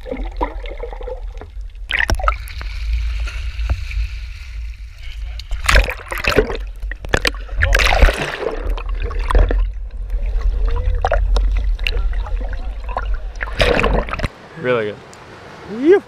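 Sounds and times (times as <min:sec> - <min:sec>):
heavy low rumble: 0:00.0 - 0:14.3
sea water sloshing and gurgling: 0:00.0 - 0:14.4
water splashes: 0:00.0 - 0:16.0.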